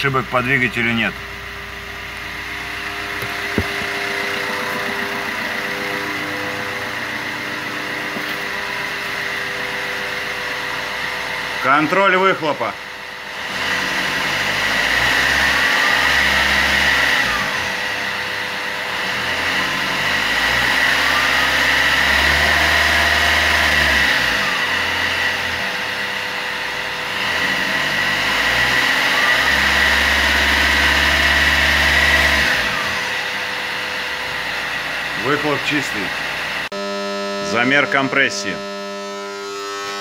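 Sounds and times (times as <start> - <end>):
diesel engine revving: 0.0 - 40.0.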